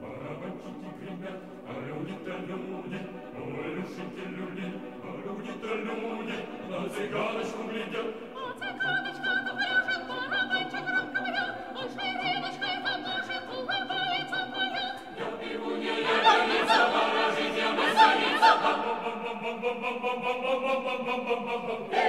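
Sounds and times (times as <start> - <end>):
mixed choir singing a cappella: 0.0 - 22.0.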